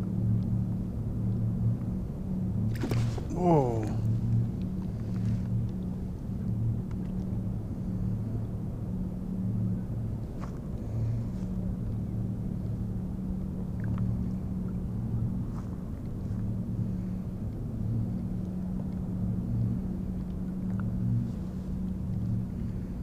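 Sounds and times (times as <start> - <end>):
boat engine hum: 0.0 - 23.0
low rumble: 0.0 - 23.0.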